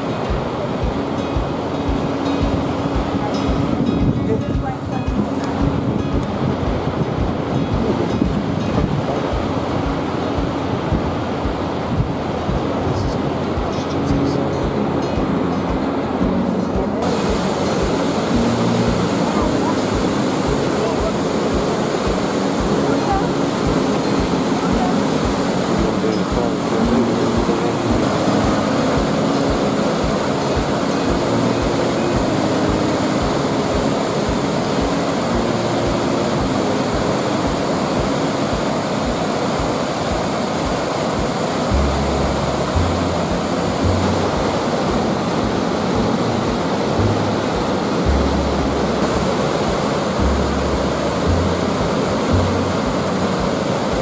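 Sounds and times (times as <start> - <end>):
background music with low bass: 0.0 - 54.0
rushing water roar: 0.0 - 54.0.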